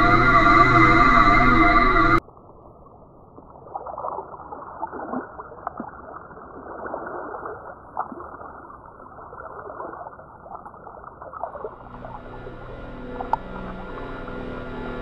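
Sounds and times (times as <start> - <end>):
muffled underwater water noise: 0.0 - 15.0.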